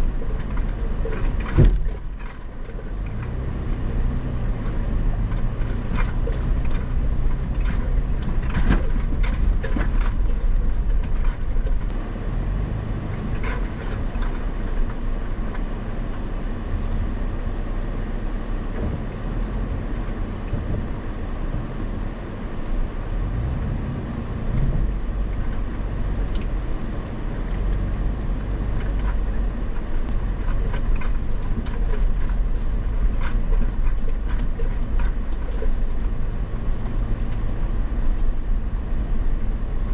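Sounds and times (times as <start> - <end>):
off-road vehicle engine rumble: 0.0 - 39.9
vehicle rattles and knocks: 0.0 - 39.9.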